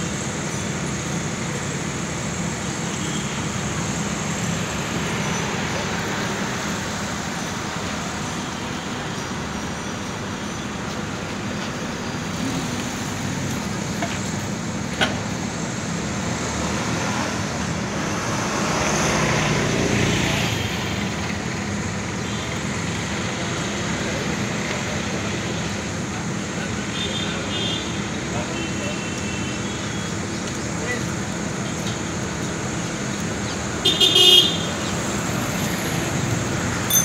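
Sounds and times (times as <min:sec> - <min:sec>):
road traffic noise: 0:00.0 - 0:37.0.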